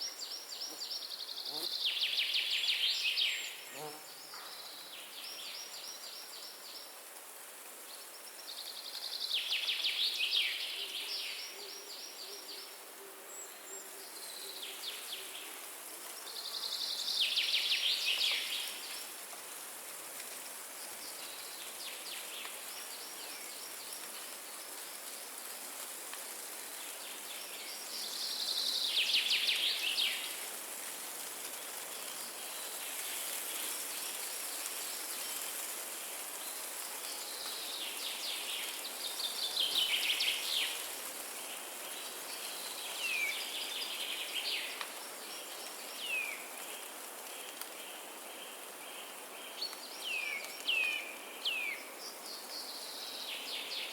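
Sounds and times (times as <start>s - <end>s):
wind in trees: 0.0s - 53.9s.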